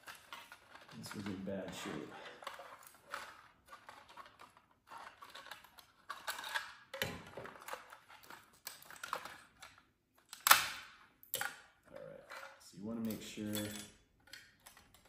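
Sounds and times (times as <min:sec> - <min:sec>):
plastic clicks and rattles: 0:00.0 - 0:15.0.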